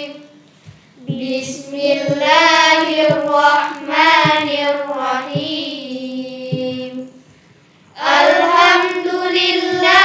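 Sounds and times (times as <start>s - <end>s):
girls singing a chant: 1.0s - 7.4s, 8.0s - 10.0s.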